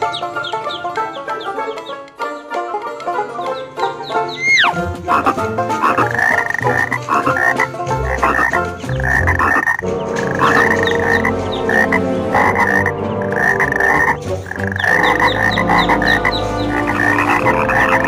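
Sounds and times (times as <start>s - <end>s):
frogs croaking: 0.0s - 2.5s, 3.4s - 18.0s.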